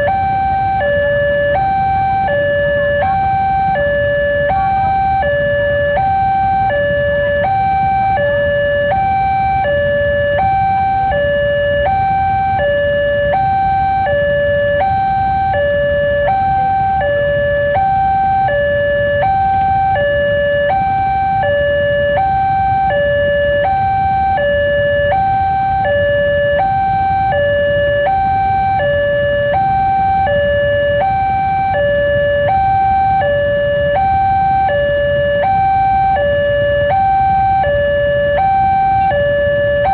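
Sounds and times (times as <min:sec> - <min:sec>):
idling vehicles rumble: 0:00.0 - 0:39.9
two-tone level crossing alarm: 0:00.0 - 0:39.9.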